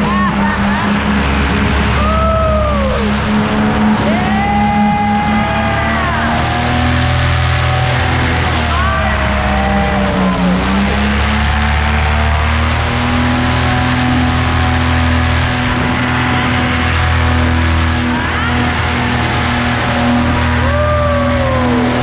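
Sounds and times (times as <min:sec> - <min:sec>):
paramotor engine and propeller: 0:00.0 - 0:22.0.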